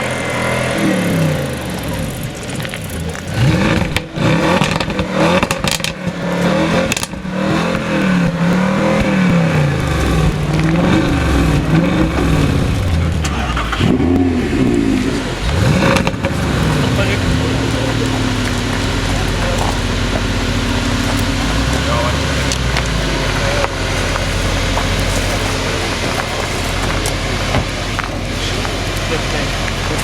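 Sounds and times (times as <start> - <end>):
car engine revving: 0.0 - 30.0
exhaust crackles and pops: 0.0 - 30.0.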